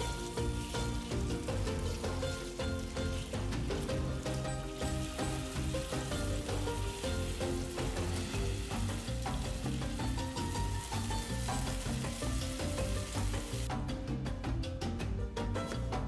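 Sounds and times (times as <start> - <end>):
food sizzling in a pan: 0.0 - 13.7
background music melody: 0.0 - 16.0.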